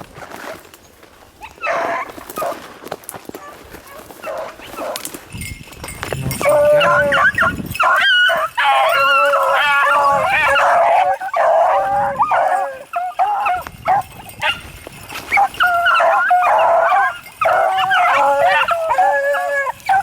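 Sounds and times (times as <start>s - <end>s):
dogs baying and howling: 1.4s - 2.7s, 3.3s - 5.2s, 6.0s - 20.0s.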